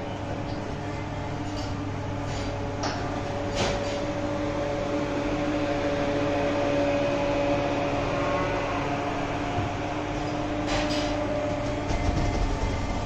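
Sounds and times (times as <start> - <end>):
barn machinery humming: 0.0 - 13.0.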